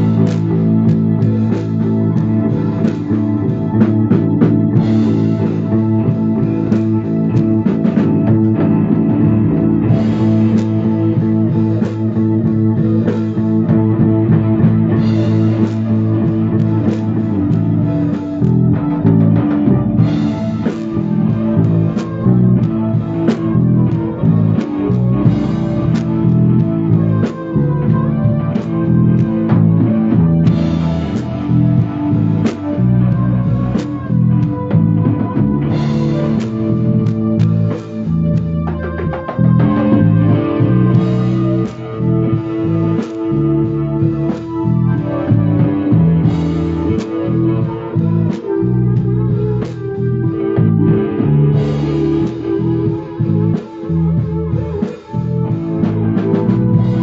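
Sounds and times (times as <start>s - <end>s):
drum kit playing rock groove: 0.0s - 57.0s
electric bass guitar: 0.0s - 57.0s.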